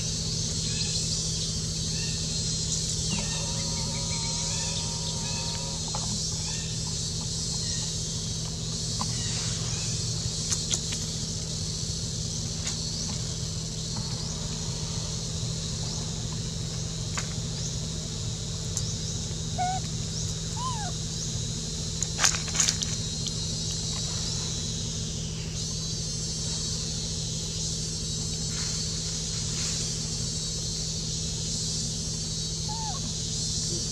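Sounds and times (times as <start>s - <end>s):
high-pitched insect buzzing: 0.0s - 16.2s, 17.6s - 33.9s
low steady hum: 0.0s - 33.9s.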